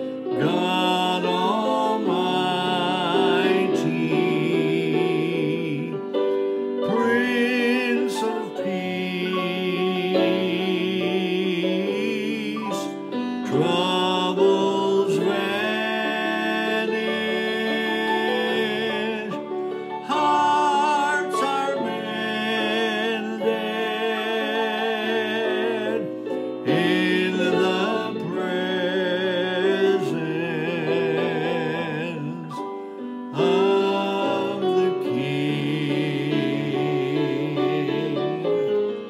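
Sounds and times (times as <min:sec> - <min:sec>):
instrumental backing track: 0:00.0 - 0:39.0
man and woman singing a hymn: 0:00.0 - 0:39.0.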